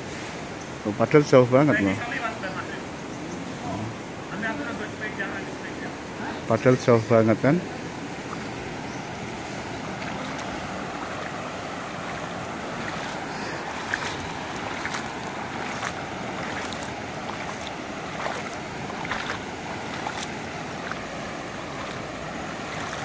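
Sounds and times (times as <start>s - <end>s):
flooding river rushing: 0.0s - 23.0s.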